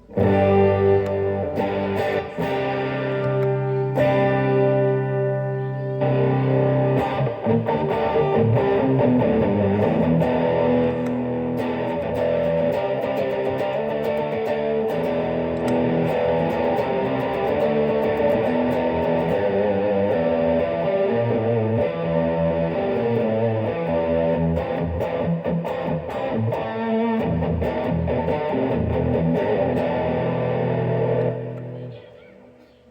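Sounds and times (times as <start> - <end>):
overdriven electric guitar: 0.0 - 32.5.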